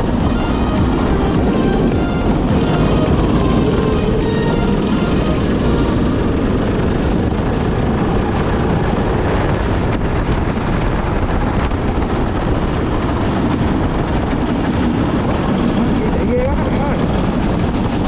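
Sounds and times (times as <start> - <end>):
kart engine running: 0.0 - 18.0
wind rush on microphone: 0.0 - 18.0.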